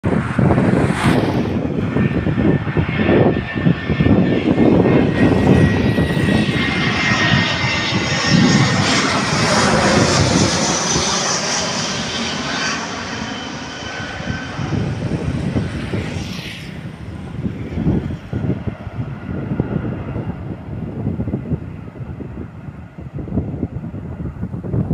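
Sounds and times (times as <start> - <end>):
jet airliner passing overhead: 0.0 - 24.9
wind rumbling on microphone: 0.0 - 24.9.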